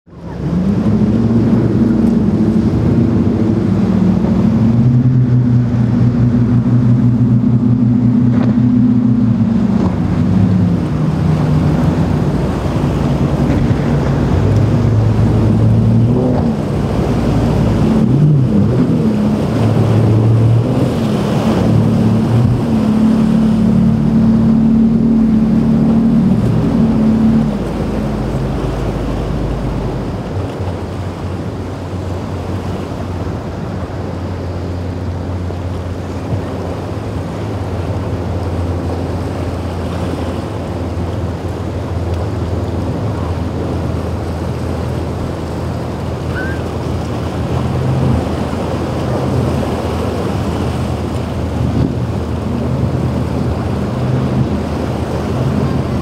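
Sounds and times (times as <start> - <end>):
outboard motors running hard: 0.0 - 56.0
waves and spray: 0.1 - 56.0
wind on microphone: 0.1 - 56.0.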